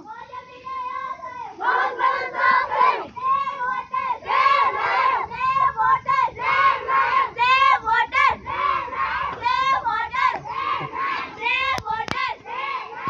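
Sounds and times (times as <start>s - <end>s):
girls chanting slogans: 0.0s - 13.0s.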